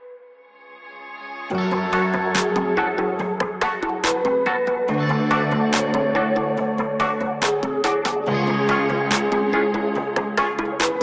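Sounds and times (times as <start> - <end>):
electronic beat with percussion: 1.5 - 11.0.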